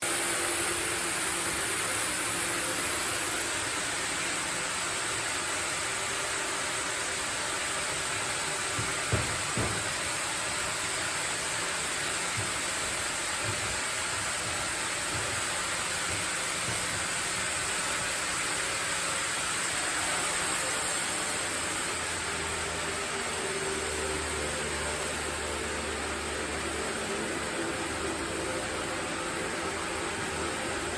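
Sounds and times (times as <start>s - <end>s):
sawmill machinery hissing: 0.0s - 30.9s.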